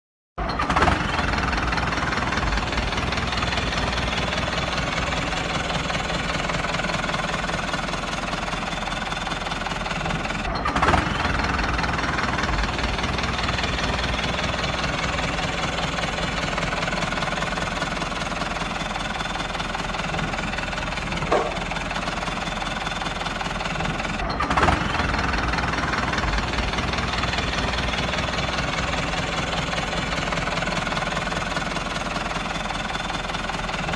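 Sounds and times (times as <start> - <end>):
diesel tractor engine idling: 0.4 - 33.9.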